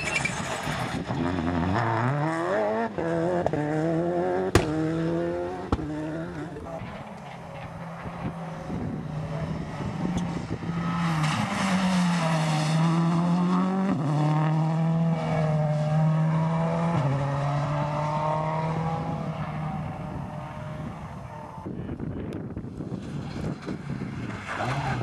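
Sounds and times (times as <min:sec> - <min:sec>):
rally car engine passing: 0:00.0 - 0:21.7, 0:23.0 - 0:25.0.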